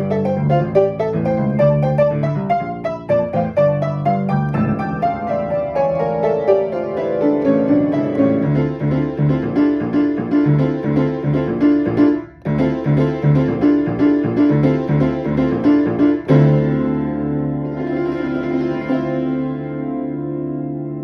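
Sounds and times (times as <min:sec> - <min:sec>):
fast piano piece: 0:00.0 - 0:21.0.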